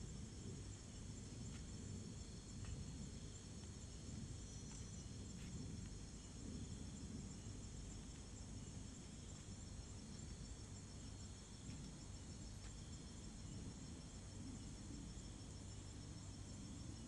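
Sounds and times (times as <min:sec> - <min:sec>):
crickets chirping: 0:00.0 - 0:17.0
low steady rumble: 0:00.0 - 0:17.0.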